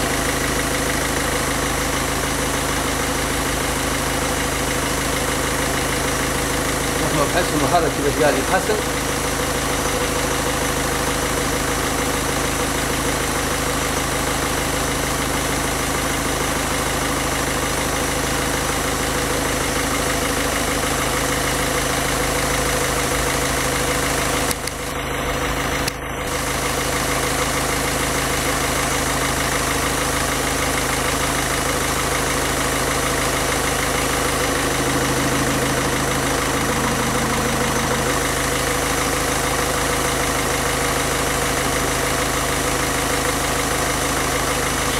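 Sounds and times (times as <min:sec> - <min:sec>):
diesel engine idling: 0:00.0 - 0:28.4, 0:29.2 - 0:44.9.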